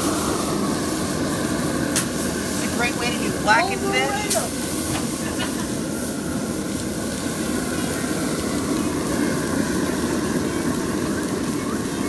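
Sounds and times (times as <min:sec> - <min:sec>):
fish sizzling on a grill: 0:00.0 - 0:12.0
grill fire rushing: 0:00.0 - 0:12.0.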